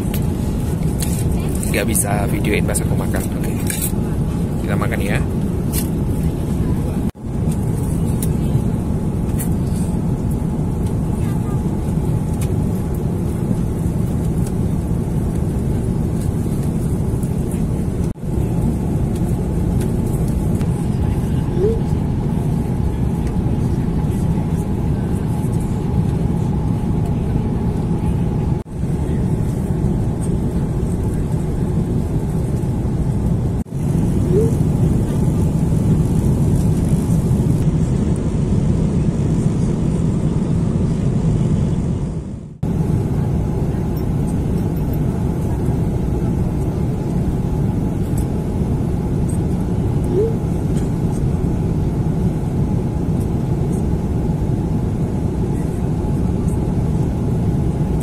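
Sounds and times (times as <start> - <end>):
airliner cabin engine rush: 0.0 - 58.0.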